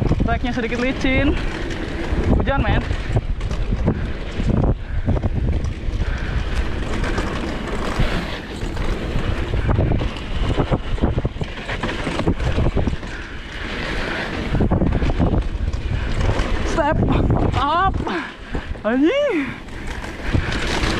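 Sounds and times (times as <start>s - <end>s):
mountain bike rattling on dirt trail: 0.0s - 20.9s
wind buffeting microphone: 0.0s - 20.9s.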